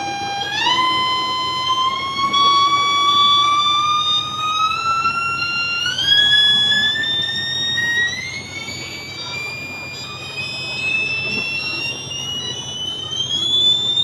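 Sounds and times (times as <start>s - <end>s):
speaker-cleaning tone rising in pitch: 0.0s - 14.0s.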